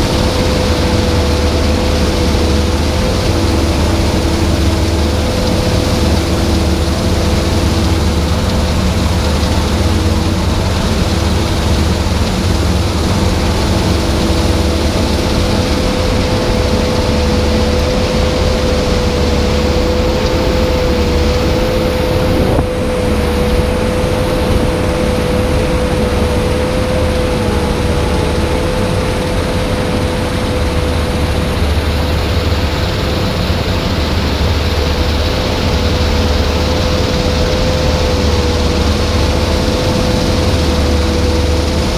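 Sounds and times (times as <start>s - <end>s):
combine harvester droning: 0.0s - 41.9s.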